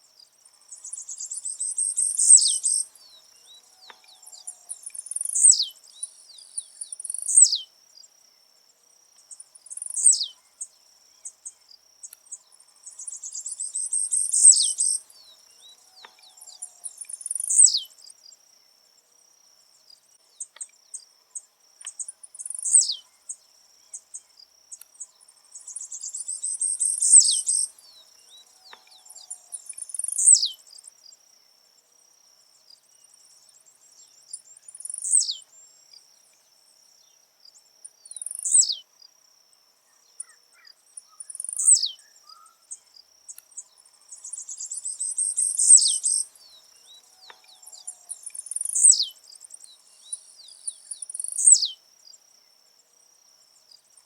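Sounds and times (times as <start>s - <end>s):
bird singing buzzy song: 0.0s - 54.0s.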